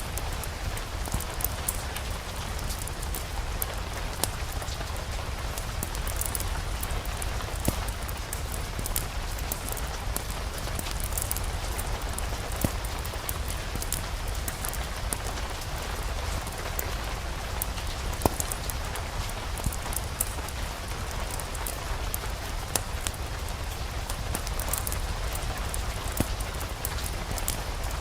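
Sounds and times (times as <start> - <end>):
fire crackling and popping: 0.0 - 28.0
steady rain: 0.0 - 28.0.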